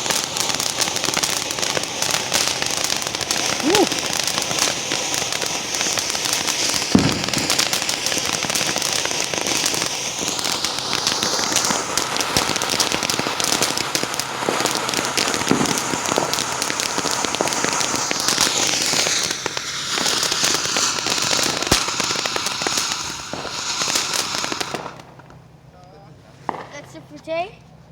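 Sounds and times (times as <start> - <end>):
steady hiss: 0.0 - 25.2
fireworks bangs: 0.0 - 25.5, 26.2 - 27.5
fireworks crackling: 0.0 - 27.6.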